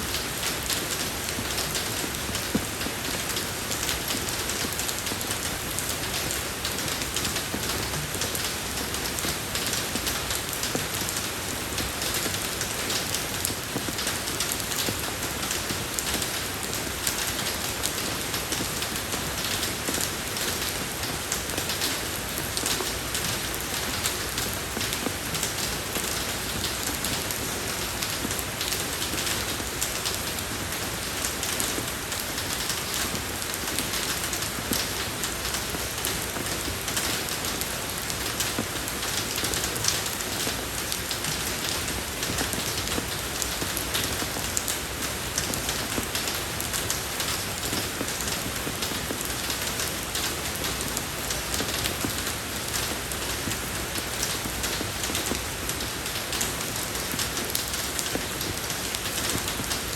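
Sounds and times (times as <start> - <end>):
rain falling on a road: 0.0 - 59.9.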